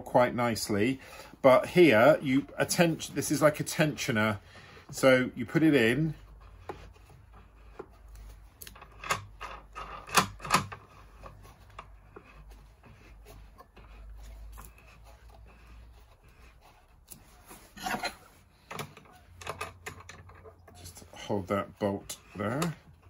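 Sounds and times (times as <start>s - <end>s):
hands rubbing wood: 0.3s - 23.0s.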